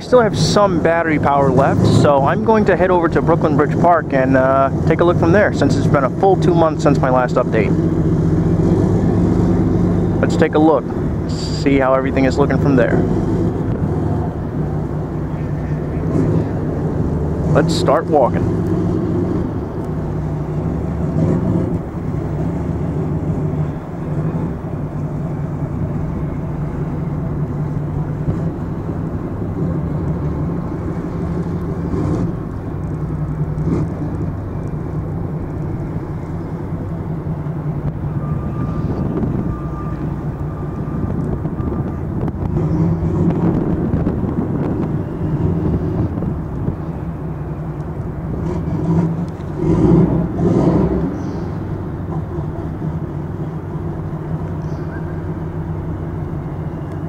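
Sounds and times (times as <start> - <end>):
low traffic rumble: 0.0 - 57.0.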